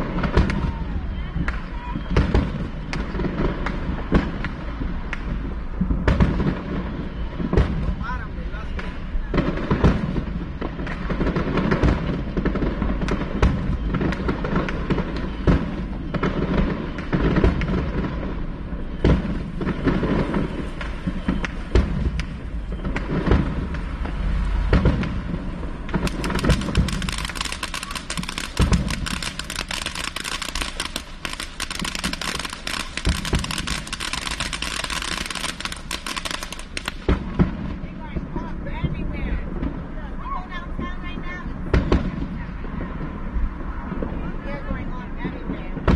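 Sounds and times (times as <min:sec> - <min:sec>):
fireworks bangs and booms: 0:00.0 - 0:45.9
fireworks crackling: 0:00.0 - 0:45.9.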